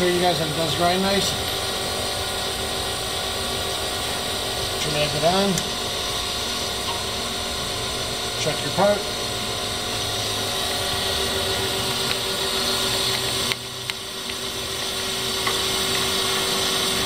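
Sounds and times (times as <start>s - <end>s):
grinding wheel hissing: 0.0s - 17.0s
spindle humming: 0.0s - 17.0s.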